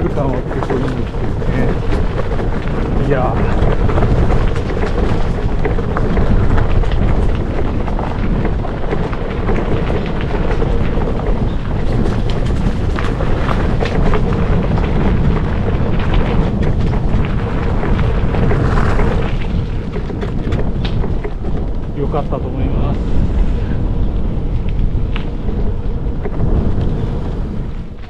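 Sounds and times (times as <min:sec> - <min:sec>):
bike tyres rolling on gravel: 0:00.0 - 0:28.0.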